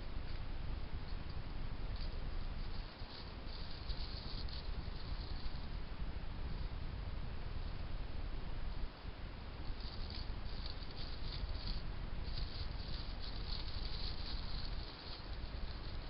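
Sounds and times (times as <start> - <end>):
background hiss: 0.0 - 16.0
rustling in dry nesting material: 0.0 - 16.0.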